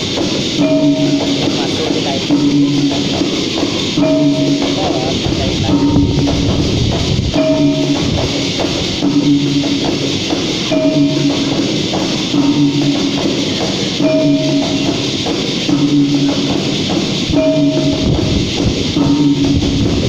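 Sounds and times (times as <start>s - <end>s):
frame drums beating: 0.0s - 20.0s.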